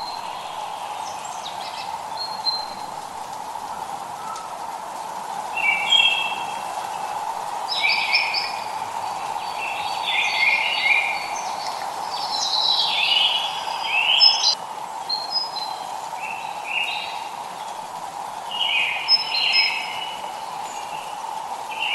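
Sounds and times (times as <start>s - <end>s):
drizzling rain hiss: 0.0s - 21.9s
songbirds chirping: 0.0s - 21.9s.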